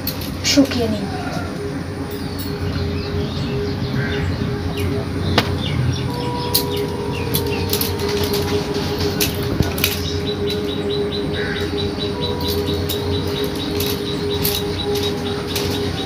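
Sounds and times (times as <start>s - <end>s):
birds chirping: 0.0s - 16.0s
steady background hum: 0.0s - 16.0s.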